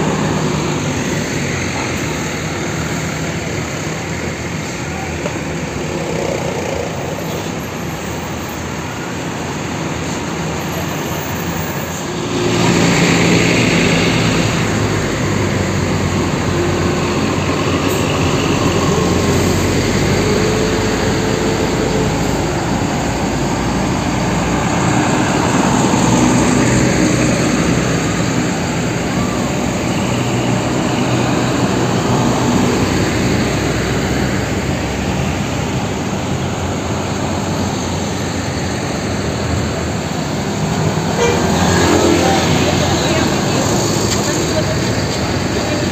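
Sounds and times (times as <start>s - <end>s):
diesel coaches driving past: 0.0s - 45.9s.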